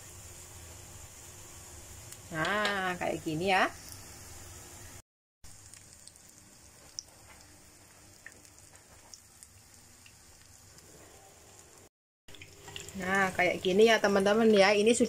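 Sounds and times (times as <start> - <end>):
fritters sizzling in oil: 0.0 - 15.0.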